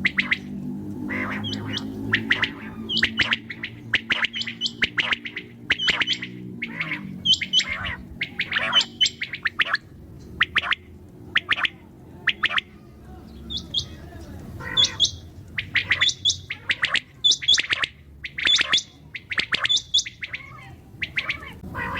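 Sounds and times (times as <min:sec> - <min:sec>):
quail chirping: 0:00.0 - 0:21.9.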